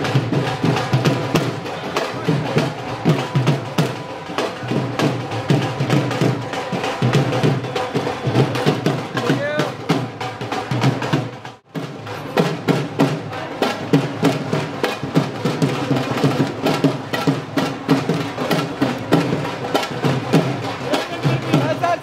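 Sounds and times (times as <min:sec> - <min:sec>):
music with fast percussion beat: 0:00.0 - 0:22.0.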